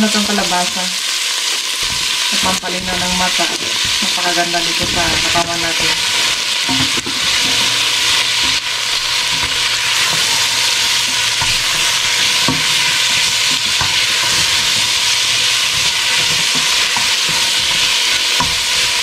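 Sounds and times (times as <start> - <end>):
vegetables sizzling in hot oil: 0.0 - 19.0
spatula scraping a pan: 1.7 - 19.0.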